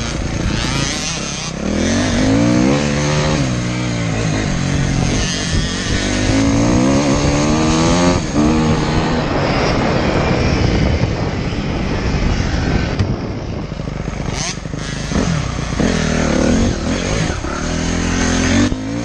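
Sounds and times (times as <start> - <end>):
dirt bike engine revving: 0.0 - 19.0
rough rushing noise: 0.0 - 19.0.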